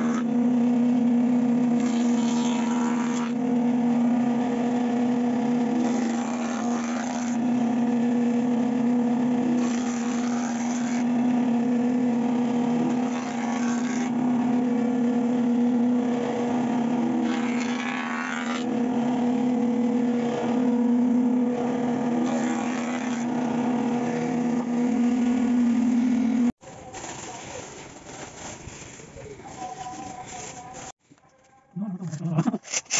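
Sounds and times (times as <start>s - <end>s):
jointer-planer motor hum: 0.0s - 26.6s
planer cutting wood: 0.0s - 26.6s.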